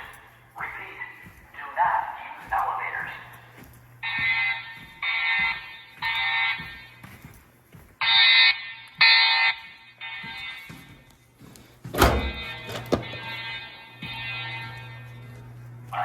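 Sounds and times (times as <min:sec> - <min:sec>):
fire alarm tones: 0:00.0 - 0:07.4, 0:08.0 - 0:16.0.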